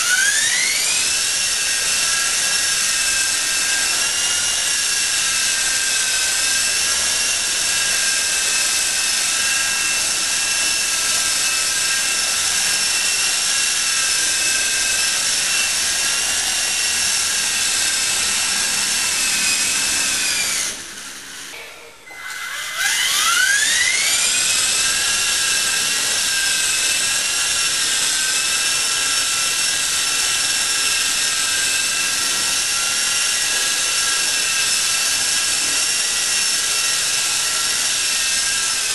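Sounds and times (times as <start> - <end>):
rc helicopter motor whining: 0.0 - 38.9.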